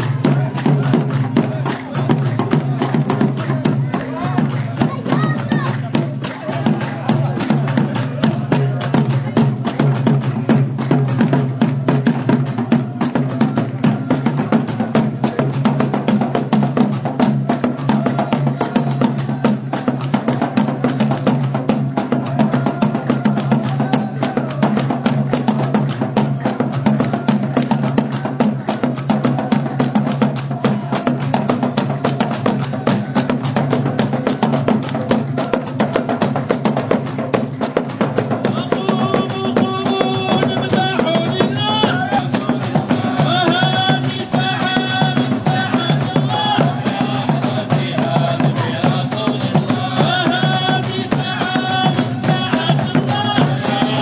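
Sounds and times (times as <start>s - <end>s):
drums beaten in fast rhythm: 0.0s - 54.0s.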